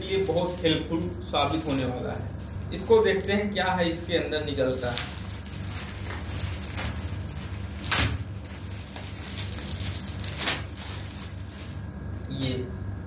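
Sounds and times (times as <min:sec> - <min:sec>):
plastic pouch crinkling: 0:00.0 - 0:12.0.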